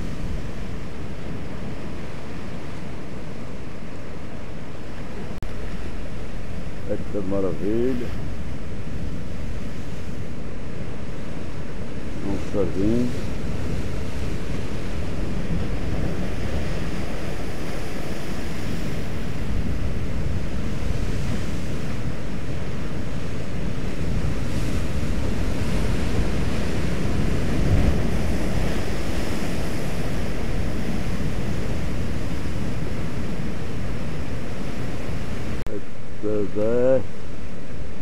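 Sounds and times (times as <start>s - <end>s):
wind buffeting microphone: 0.0s - 35.6s
surf breaking on rocks: 4.9s - 35.6s.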